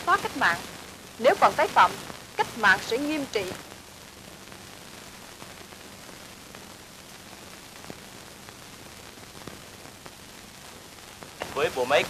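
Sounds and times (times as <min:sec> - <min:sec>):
old film soundtrack hiss: 0:00.0 - 0:12.0.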